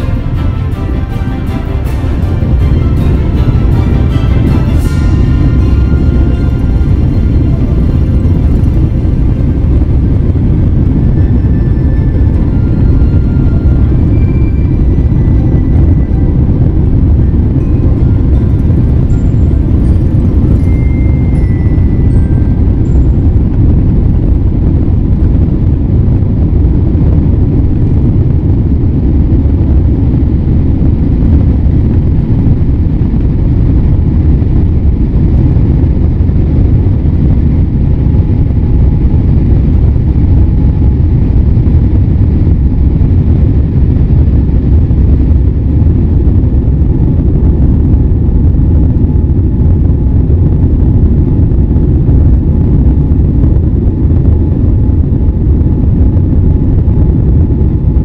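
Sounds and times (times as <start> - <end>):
faint steady whine: 0.0 - 58.0
jet engine cabin rumble: 0.0 - 58.0.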